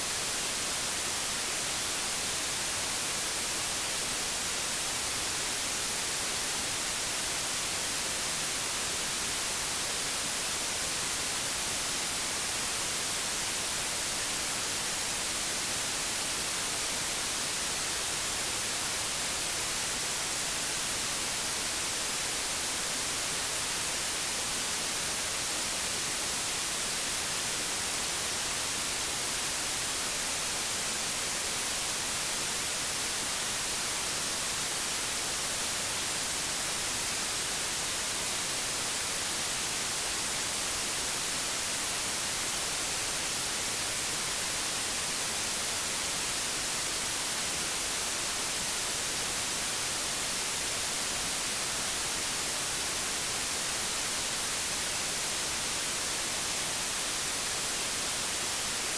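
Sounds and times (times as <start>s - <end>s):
television static hiss: 0.0s - 58.9s.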